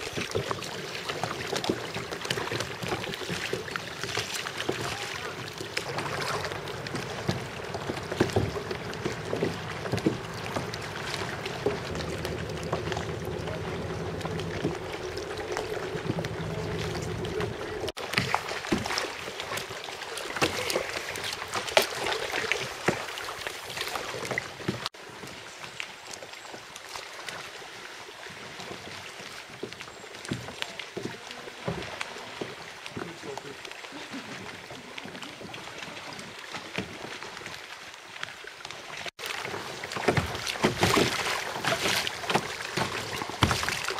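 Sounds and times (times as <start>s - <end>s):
kayak paddles splashing: 0.0s - 43.9s
water lapping against hull: 0.0s - 43.9s.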